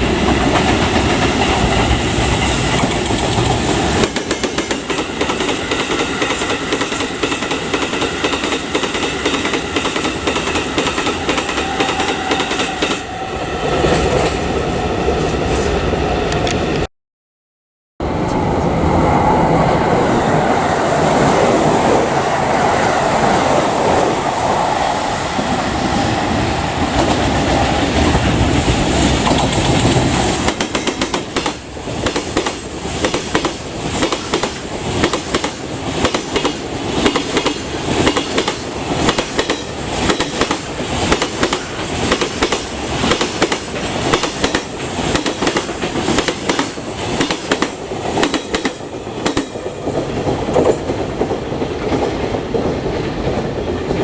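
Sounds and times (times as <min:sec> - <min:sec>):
freight train rumbling past: 0:00.0 - 0:16.9, 0:18.0 - 0:54.0.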